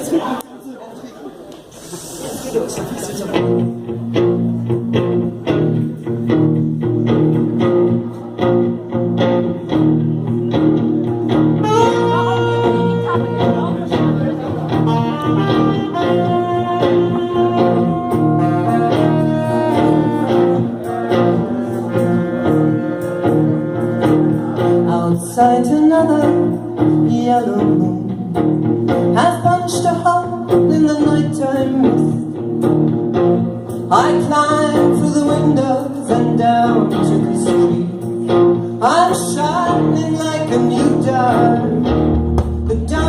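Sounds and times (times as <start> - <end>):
live rock band playing: 2.8 - 43.0.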